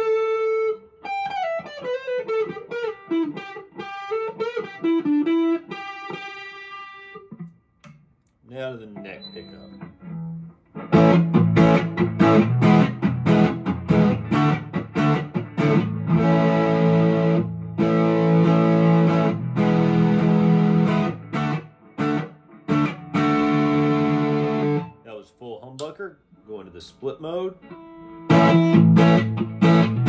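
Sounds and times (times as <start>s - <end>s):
electric guitar picked notes: 0.0s - 7.6s, 8.8s - 25.0s, 27.3s - 30.0s
electric guitar chords ringing: 0.0s - 7.8s, 8.7s - 25.0s, 26.3s - 30.0s.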